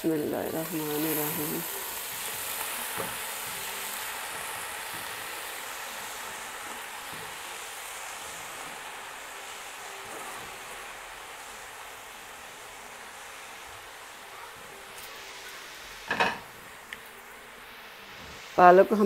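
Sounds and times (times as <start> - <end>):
spinach sizzling in hot oil: 0.0 - 19.0.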